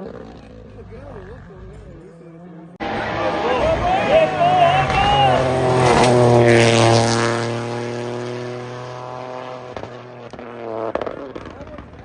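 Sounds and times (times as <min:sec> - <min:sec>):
rally car engine passing: 0:00.0 - 0:12.0.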